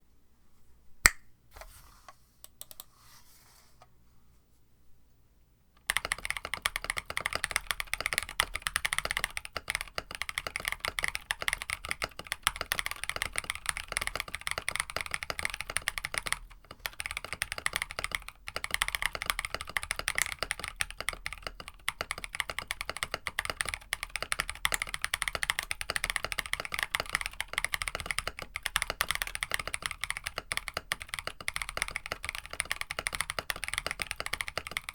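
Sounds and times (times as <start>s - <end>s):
fast mechanical keyboard typing: 5.8s - 34.9s.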